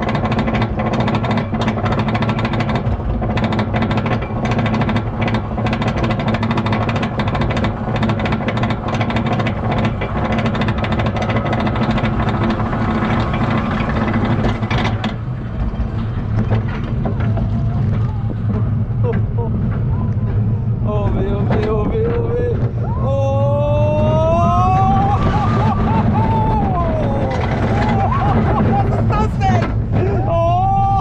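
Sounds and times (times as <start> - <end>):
lift chain drone: 0.0 - 31.0
roller coaster ratchet clacking: 0.0 - 31.0.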